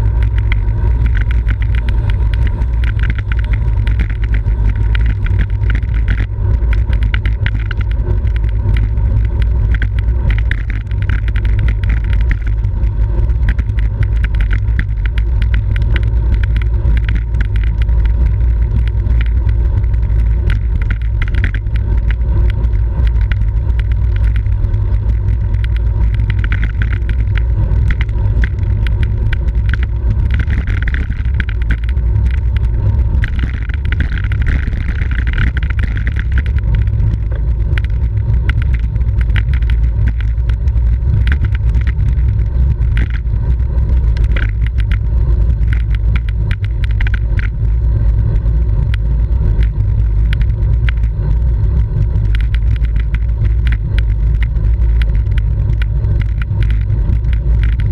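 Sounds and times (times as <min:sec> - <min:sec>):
light clicks from bicycle: 0:00.2 - 0:57.9.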